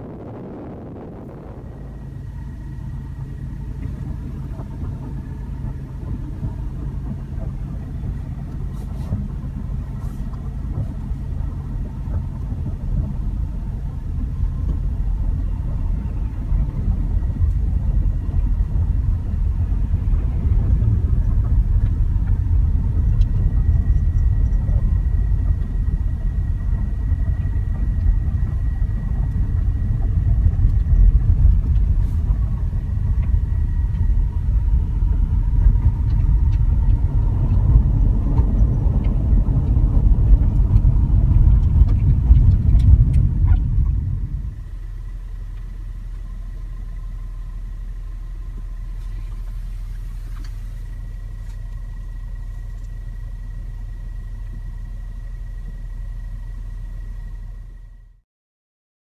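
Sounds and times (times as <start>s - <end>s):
car engine and tyres rumbling: 0.0s - 58.2s.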